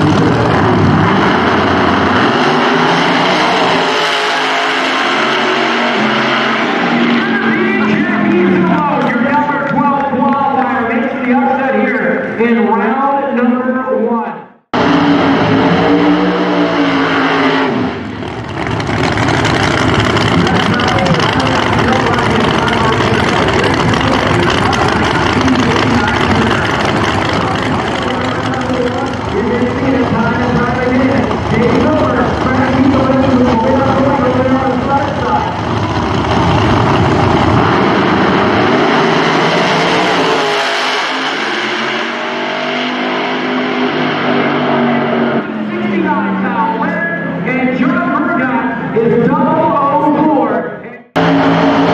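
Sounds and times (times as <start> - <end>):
race car engine revving: 0.0 - 12.4, 14.6 - 51.9.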